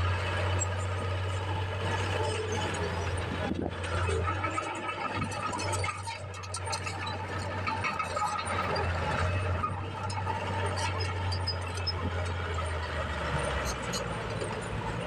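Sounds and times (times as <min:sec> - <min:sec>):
dozer engine droning: 0:00.0 - 0:15.0
tracks clicking and knocking on rock: 0:01.8 - 0:15.0.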